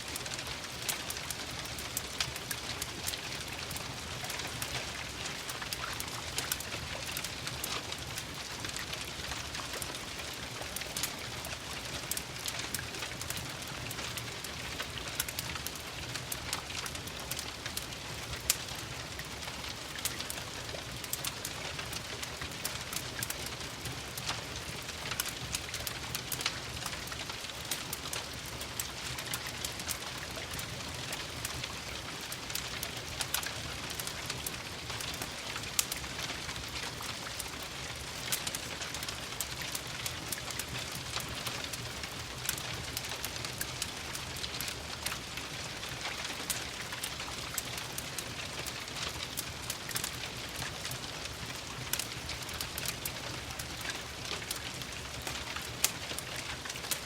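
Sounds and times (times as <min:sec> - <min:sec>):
steady rain: 0:00.0 - 0:57.0
wood fire crackling: 0:00.0 - 0:57.0.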